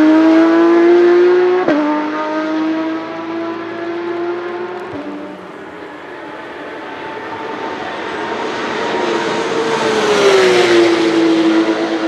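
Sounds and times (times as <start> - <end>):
race car engine passing: 0.0 - 12.0.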